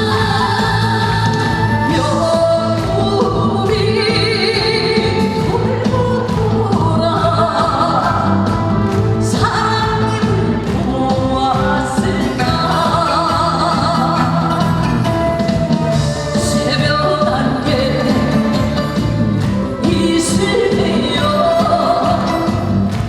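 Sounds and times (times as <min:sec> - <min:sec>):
live band playing: 0:00.0 - 0:23.0.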